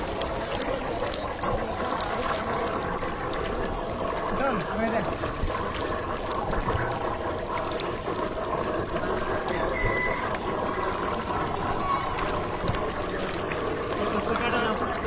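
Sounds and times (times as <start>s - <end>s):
muddy water sloshing and splashing: 0.0s - 15.0s.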